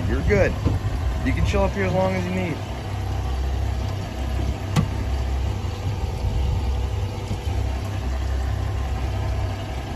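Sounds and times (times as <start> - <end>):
outboard motor idling: 0.0 - 9.9.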